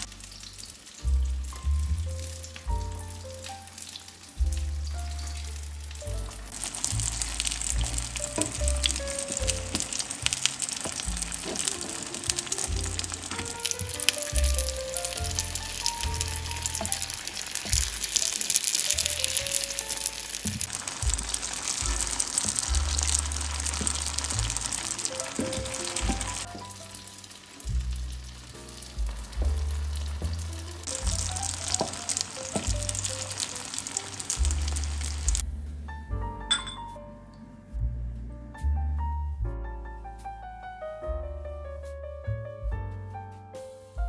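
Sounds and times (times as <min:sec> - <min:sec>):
oil sizzling in a frying pan: 0:00.0 - 0:35.4
background music: 0:00.0 - 0:44.0.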